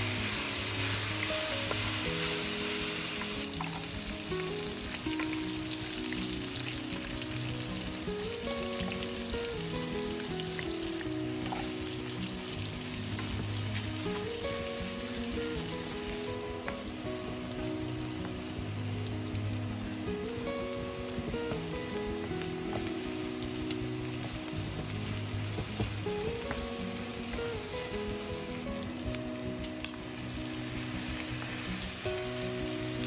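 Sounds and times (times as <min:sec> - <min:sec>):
background music: 0:00.0 - 0:33.0
meat and onion sizzling in pan: 0:00.0 - 0:33.0.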